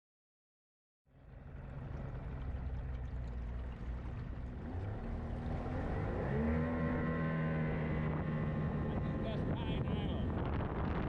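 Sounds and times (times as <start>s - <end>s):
boat engine revving: 1.2s - 11.0s.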